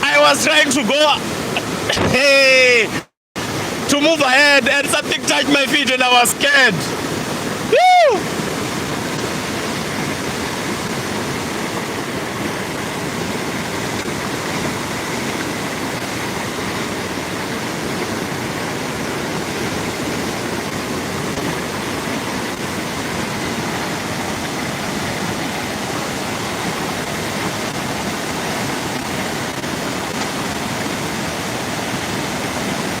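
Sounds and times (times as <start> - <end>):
floodwater rushing: 0.0 - 33.0.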